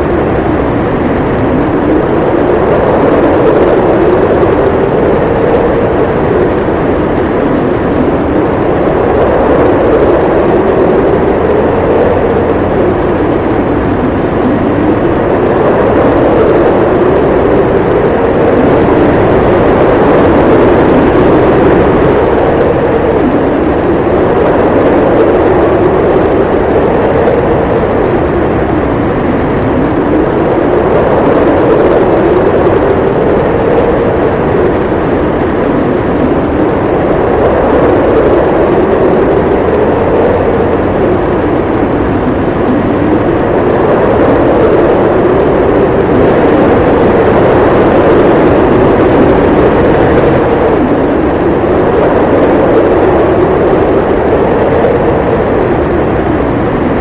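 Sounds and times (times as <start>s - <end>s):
howling blizzard wind: 0.0s - 57.0s.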